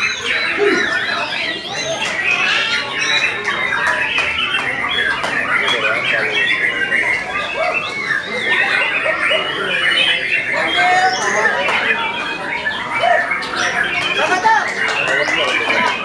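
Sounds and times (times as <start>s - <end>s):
birds singing whistles and trills: 0.0s - 16.0s.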